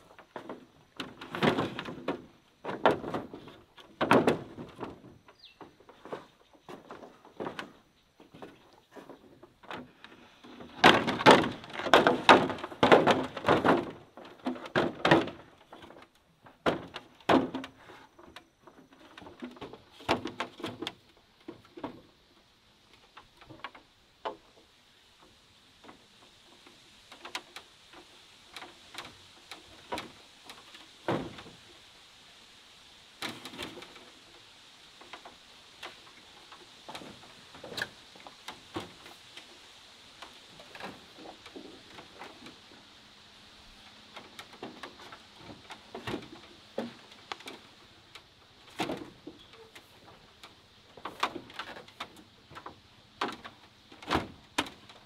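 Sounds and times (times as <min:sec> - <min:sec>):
bamboo poles knocking and creaking: 0:00.0 - 0:31.9, 0:32.9 - 0:43.0, 0:43.8 - 0:55.0.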